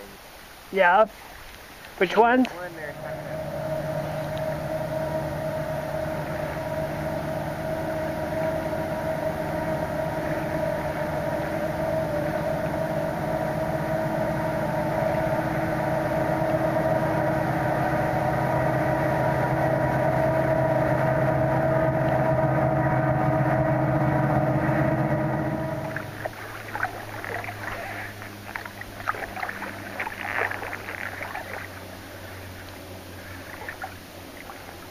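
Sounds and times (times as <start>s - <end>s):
engine drone with steady hum: 0.0s - 34.9s.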